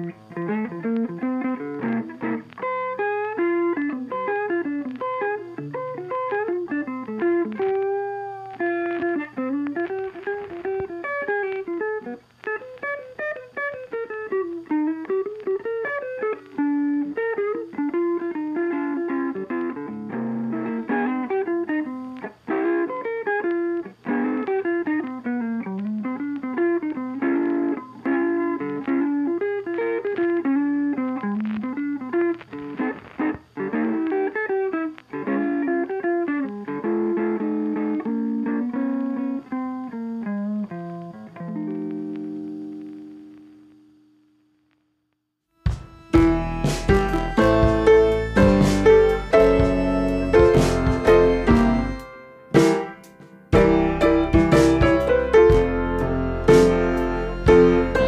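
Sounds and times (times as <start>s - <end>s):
plucked guitar-like melody: 0.0s - 43.7s, 45.6s - 58.0s.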